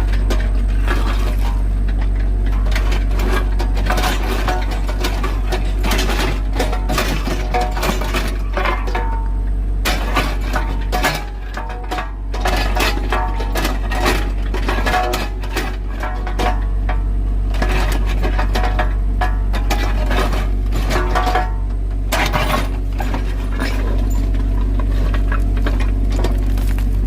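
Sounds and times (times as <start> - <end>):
excavator engine rumble: 0.0 - 27.0
steel clanking on stone: 0.1 - 26.9.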